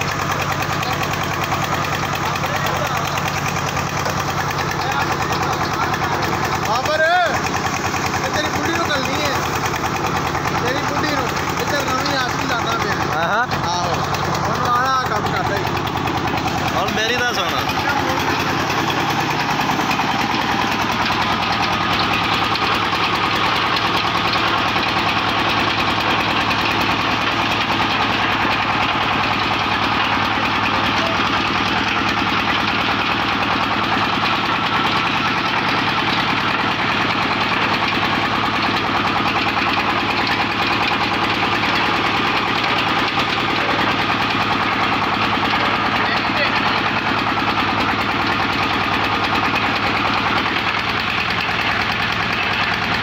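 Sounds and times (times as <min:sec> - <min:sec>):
engine running steadily: 0:00.0 - 0:53.0
pump circulating water: 0:00.0 - 0:53.0.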